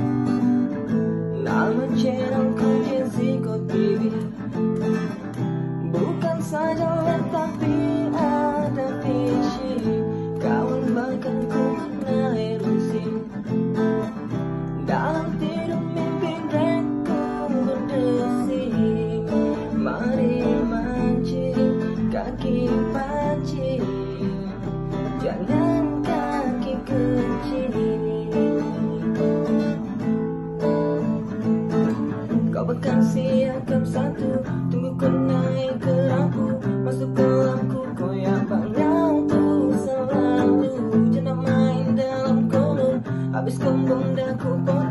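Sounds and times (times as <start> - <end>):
person singing: 0.0 - 30.0, 30.6 - 44.9
strummed acoustic guitar: 0.0 - 44.9.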